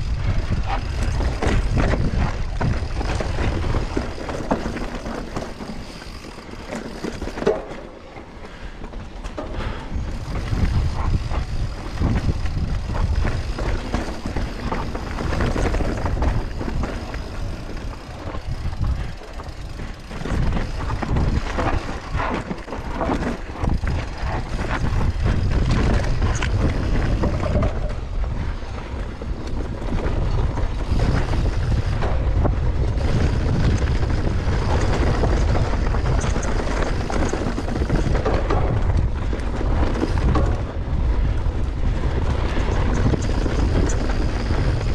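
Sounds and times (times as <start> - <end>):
wind buffeting microphone: 0.0 - 7.4, 8.6 - 44.9
bike rattling over rough ground: 0.0 - 44.9
bike tyre noise: 0.0 - 44.9.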